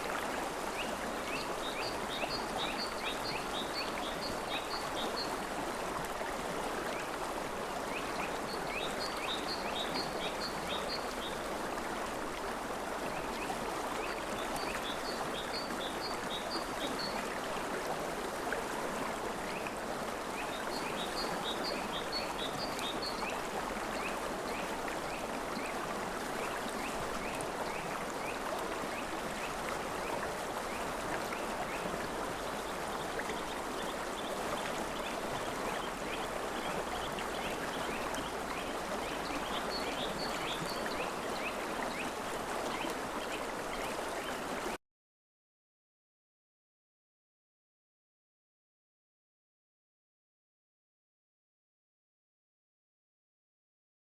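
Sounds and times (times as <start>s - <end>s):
river water flowing: 0.0s - 44.8s.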